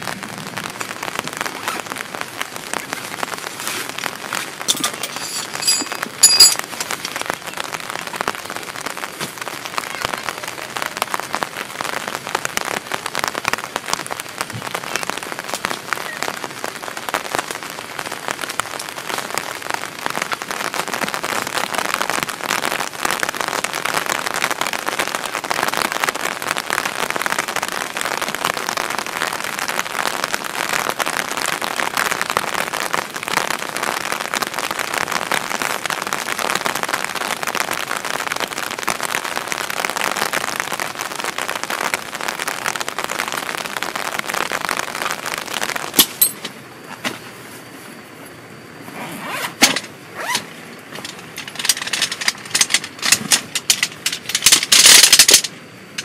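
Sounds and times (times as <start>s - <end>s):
heavy rain on tarp and grass: 0.0s - 56.0s.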